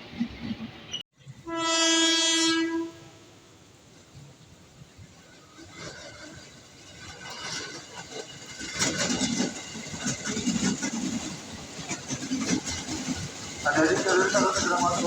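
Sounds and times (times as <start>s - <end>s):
electric train rumbling and clattering: 0.0s - 15.0s.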